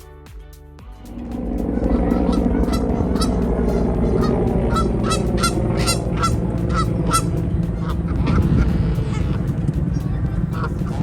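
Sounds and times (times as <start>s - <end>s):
steady low rumble: 0.9s - 11.0s
geese honking: 1.2s - 9.7s, 10.5s - 11.0s.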